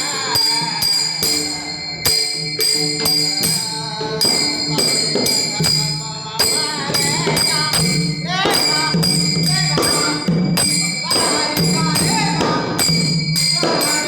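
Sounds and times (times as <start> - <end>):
hand cymbals ringing: 0.0 - 14.0.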